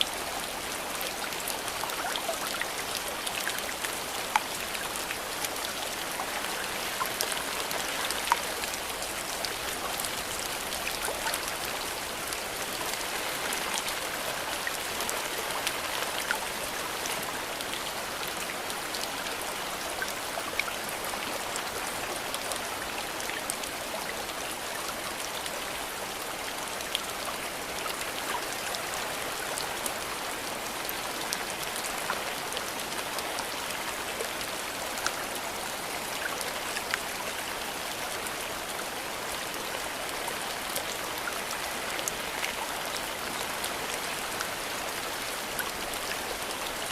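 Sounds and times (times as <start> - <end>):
rain pattering on leaves: 0.0 - 46.9.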